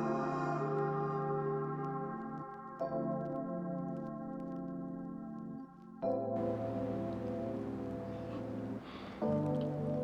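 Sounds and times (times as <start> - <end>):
ambient music with bell-like tones: 0.0 - 10.0.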